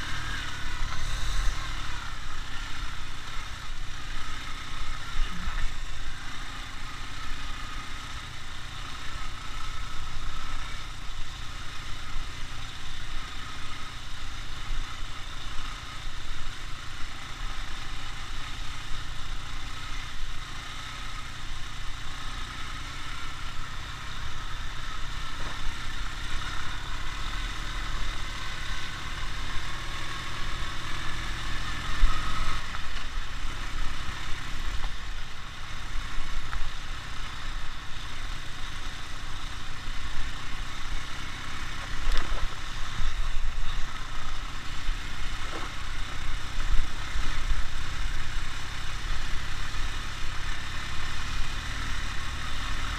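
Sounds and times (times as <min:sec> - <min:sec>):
motorcycle engine rumbling: 0:00.0 - 0:52.9.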